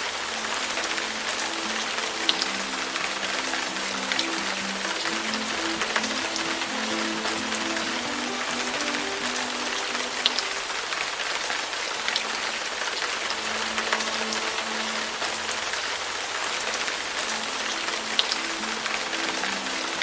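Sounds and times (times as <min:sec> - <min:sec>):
raindrops ticking: 0:00.0 - 0:20.0
soft background music: 0:00.0 - 0:20.0
steady rain falling: 0:00.0 - 0:20.0.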